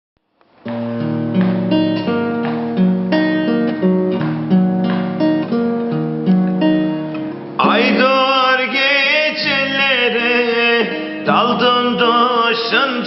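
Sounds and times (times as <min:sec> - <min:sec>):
plucked string instrument: 0:00.6 - 0:13.0.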